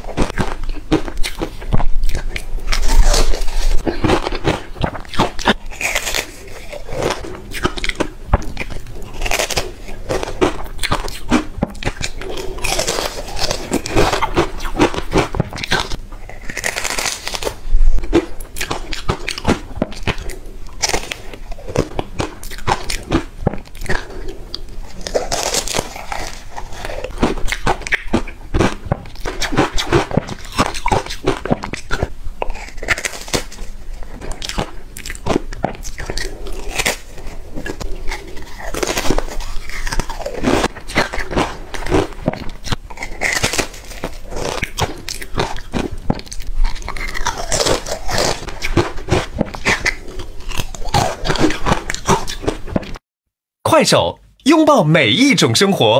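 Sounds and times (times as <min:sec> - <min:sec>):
soft chewing: 0:00.0 - 0:53.0
woman crunching food: 0:00.0 - 0:53.0.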